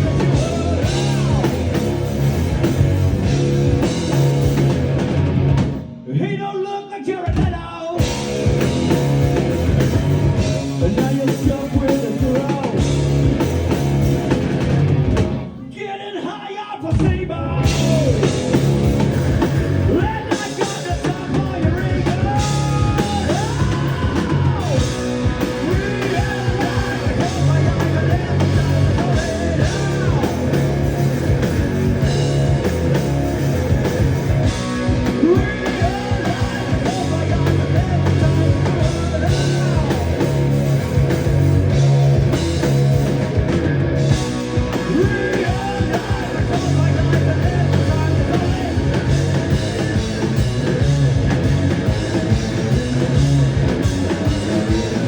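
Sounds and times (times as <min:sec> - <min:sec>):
lead vocal singing: 0:00.0 - 0:04.5, 0:06.0 - 0:13.5, 0:15.6 - 0:42.7, 0:44.1 - 0:55.0
drum kit: 0:00.0 - 0:06.0, 0:07.2 - 0:15.8, 0:16.8 - 0:55.0
heavy bass: 0:00.0 - 0:06.1, 0:07.3 - 0:15.7, 0:17.0 - 0:55.0
electric guitar: 0:00.0 - 0:06.4, 0:08.0 - 0:15.7, 0:17.3 - 0:55.0.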